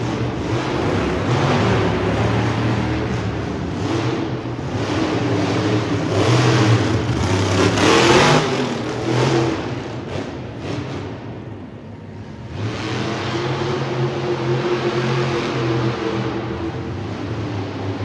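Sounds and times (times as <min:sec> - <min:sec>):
monster truck engine revving: 0:00.0 - 0:11.6, 0:12.2 - 0:18.0.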